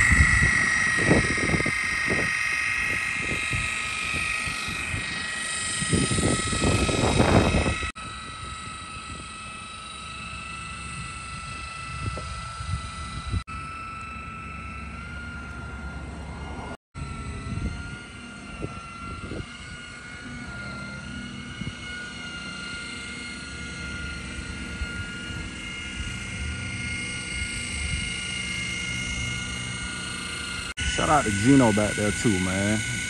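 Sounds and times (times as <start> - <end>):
engine rumble with high whine: 0.0 - 33.0.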